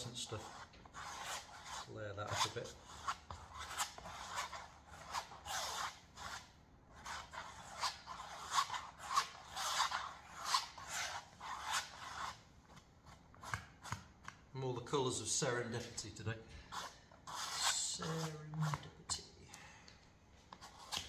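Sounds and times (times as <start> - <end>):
stick scraping paint on canvas: 0.0 - 14.5, 15.7 - 19.2, 20.5 - 21.0.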